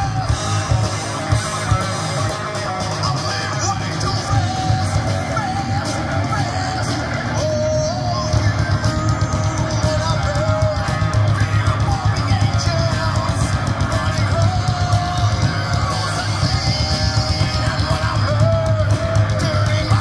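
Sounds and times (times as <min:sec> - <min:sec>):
drum kit drumming: 0:00.0 - 0:20.0
electric guitar: 0:00.0 - 0:20.0.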